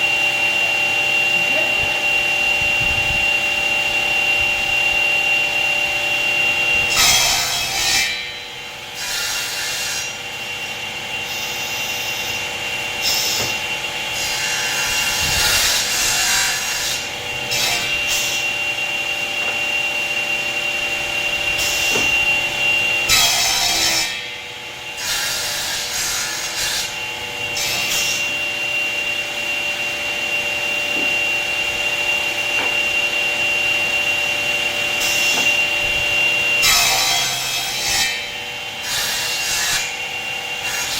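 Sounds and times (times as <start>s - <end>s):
wood being cut: 0.0s - 40.9s
woodworking machine whining: 0.0s - 40.9s.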